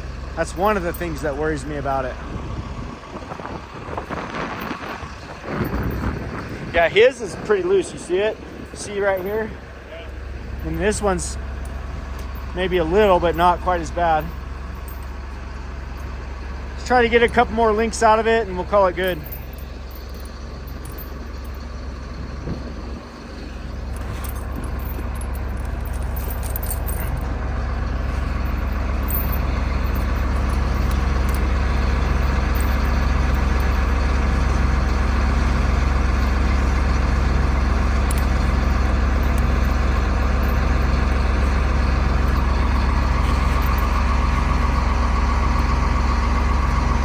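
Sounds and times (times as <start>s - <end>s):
wheel loader diesel engine: 0.0s - 47.0s.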